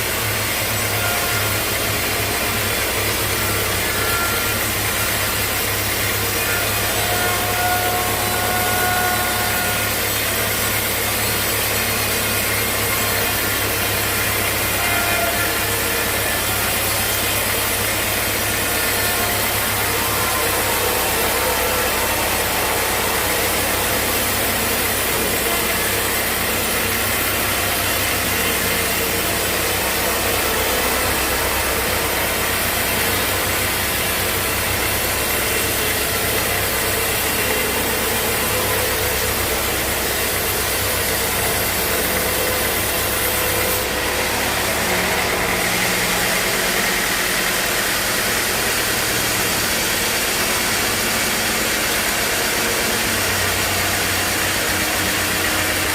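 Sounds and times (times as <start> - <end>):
motor hum: 0.0 - 55.9
sawmill machinery running: 0.0 - 55.9.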